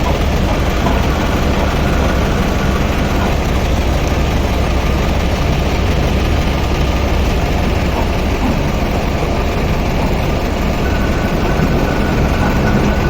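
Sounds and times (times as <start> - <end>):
lathe running: 0.0 - 13.0.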